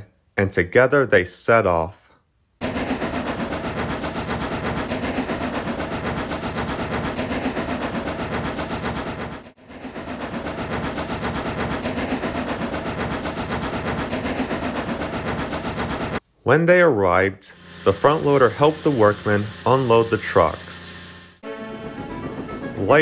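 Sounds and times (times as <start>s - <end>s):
steam locomotive chuffing: 1.7s - 23.0s.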